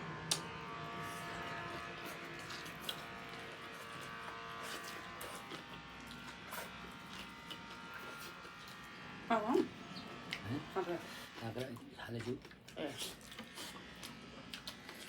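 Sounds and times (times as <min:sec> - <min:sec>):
chewing and eating sounds: 0:00.2 - 0:15.0.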